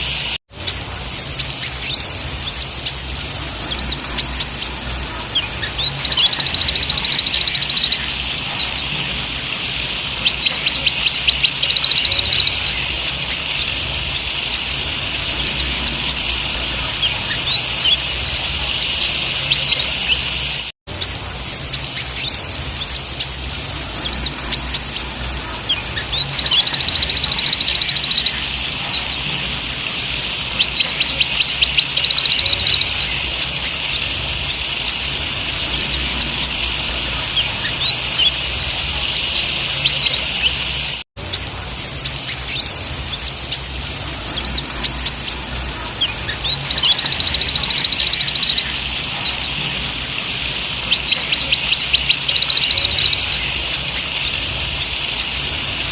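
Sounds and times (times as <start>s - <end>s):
sunbird chirping and trilling: 0.0s - 55.9s.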